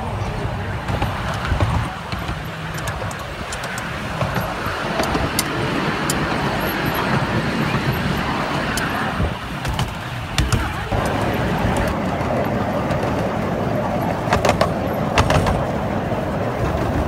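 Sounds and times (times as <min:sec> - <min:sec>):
train wheels rumbling on track: 0:00.0 - 0:17.0
sharp clicks and rattles: 0:00.8 - 0:17.0.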